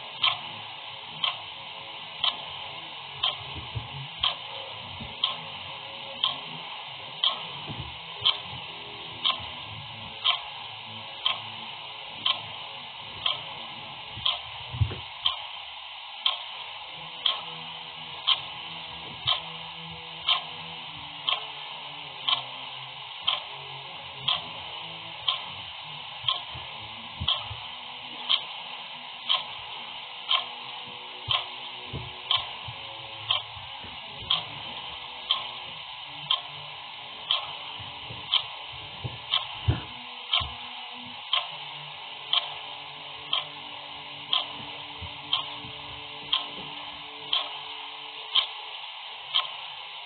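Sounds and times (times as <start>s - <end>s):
clock ticking: 0.0s - 50.0s
steady background hiss: 0.0s - 50.0s.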